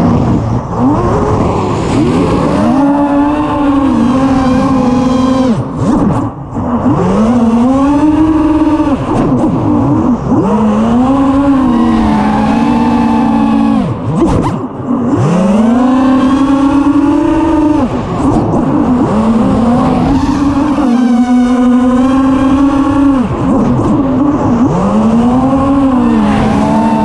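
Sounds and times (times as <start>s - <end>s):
quadcopter motors whining: 0.0s - 6.3s, 6.9s - 14.6s, 15.2s - 27.0s.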